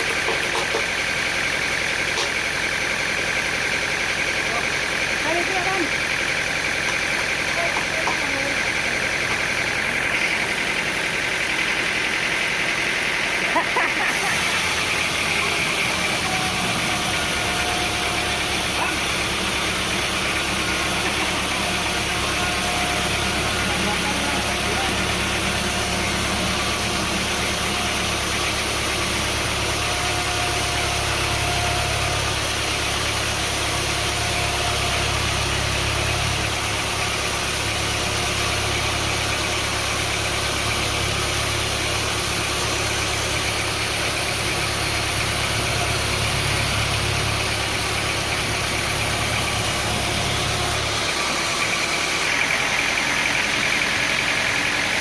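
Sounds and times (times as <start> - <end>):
engine running with deep hum: 0.0 - 55.0.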